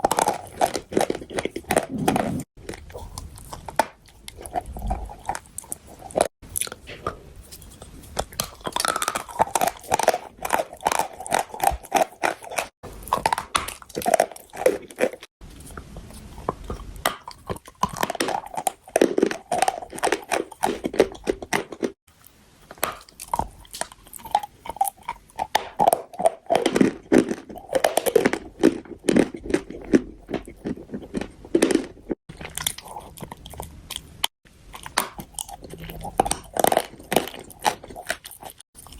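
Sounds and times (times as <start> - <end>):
chalk crunching while chewed: 0.0 - 22.0, 22.7 - 38.9.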